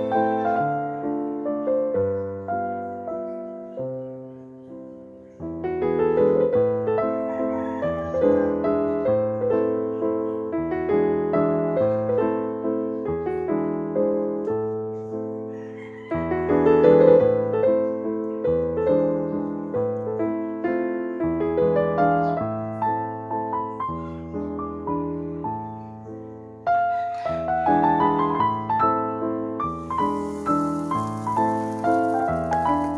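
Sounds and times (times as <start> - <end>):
gentle piano music: 0.0 - 32.9.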